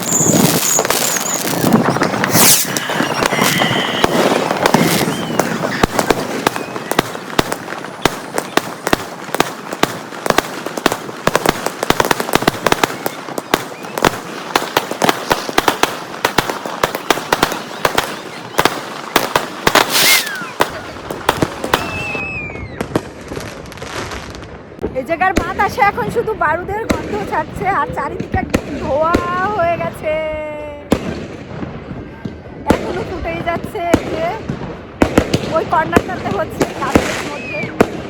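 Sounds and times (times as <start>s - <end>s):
whistling fireworks: 0.0s - 24.8s, 26.8s - 38.0s
fireworks cracking and banging: 0.0s - 38.0s.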